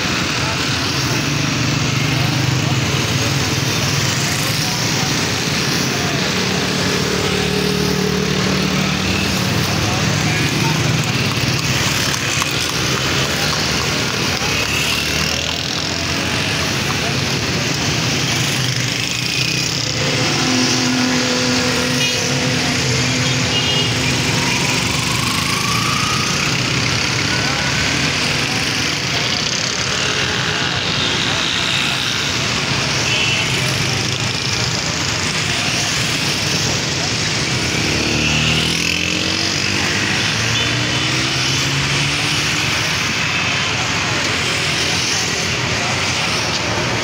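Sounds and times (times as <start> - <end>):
motor vehicle noise: 0.0 - 47.0
traffic noise: 0.0 - 47.0.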